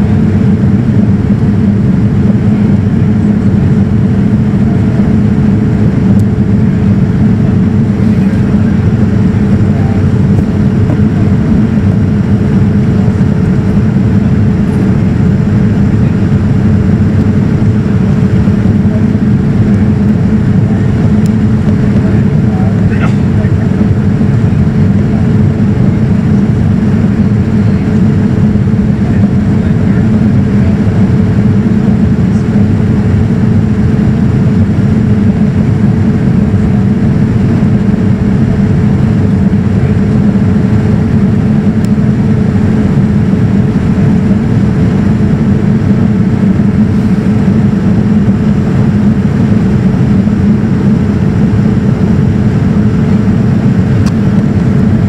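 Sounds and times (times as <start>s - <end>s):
aircraft cabin airflow rush: 0.0s - 55.0s
engine hum: 0.0s - 55.0s.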